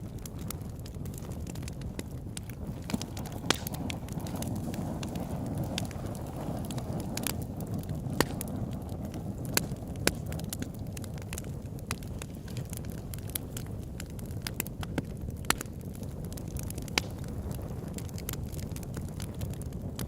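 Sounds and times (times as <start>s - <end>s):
campfire crackling: 0.0s - 20.0s
fire pops and snaps: 0.0s - 20.0s.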